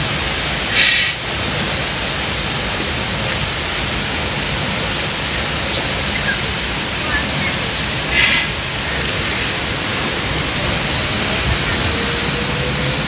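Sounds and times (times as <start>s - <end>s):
water rushing around raft: 0.0s - 13.0s.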